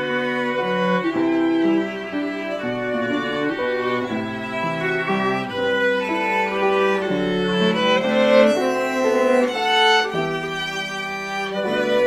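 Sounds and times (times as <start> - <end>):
piano accompaniment: 0.0 - 12.0
violins playing sustained notes: 0.0 - 12.0.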